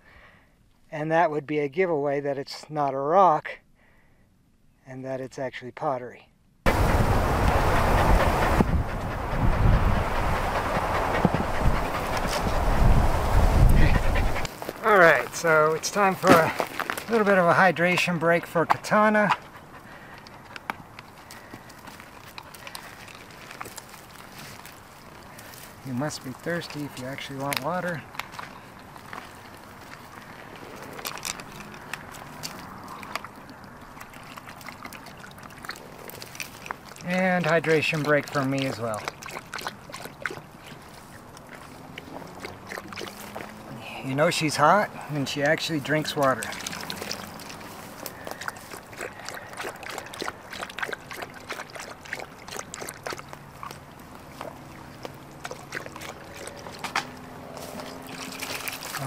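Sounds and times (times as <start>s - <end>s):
dog lapping water: 6.7s - 14.6s, 17.1s - 59.0s
water trickling and sloshing: 6.7s - 59.0s.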